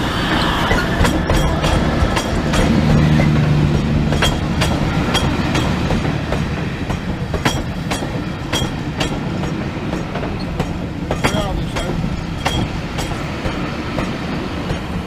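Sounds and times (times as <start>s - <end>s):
train rumble: 0.0s - 15.0s
train wheels clicking over rail joints: 0.0s - 15.0s.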